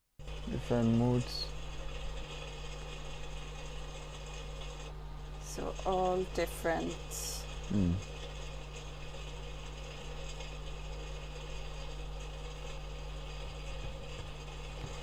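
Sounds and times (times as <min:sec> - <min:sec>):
mechanical hum: 0:00.2 - 0:15.0.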